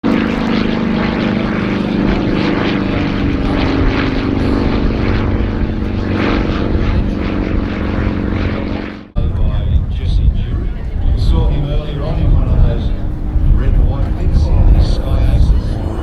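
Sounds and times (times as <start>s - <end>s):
radial aircraft engine and propeller: 0.0s - 16.0s.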